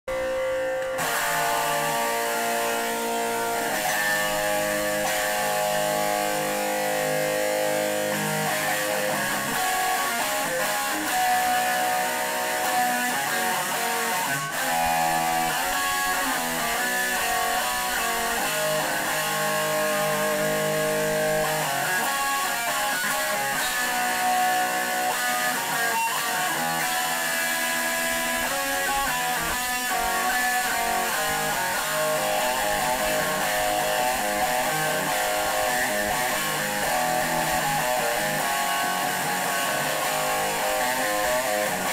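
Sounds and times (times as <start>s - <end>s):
electric guitar strumming: 0.1s - 41.9s.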